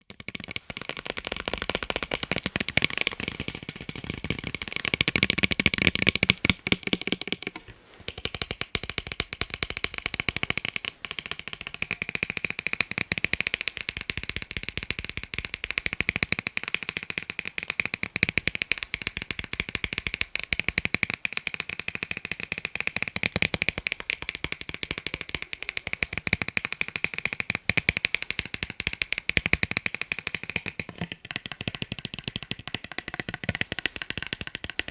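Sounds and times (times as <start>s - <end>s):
fast tapping on eyeglasses: 0.0s - 34.9s.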